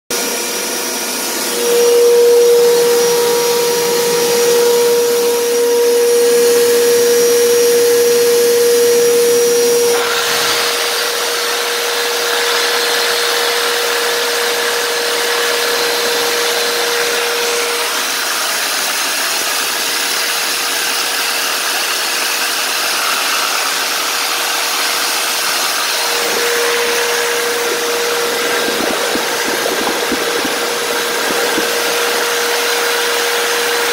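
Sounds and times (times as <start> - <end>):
reciprocating saw cutting metal: 0.1 - 33.9.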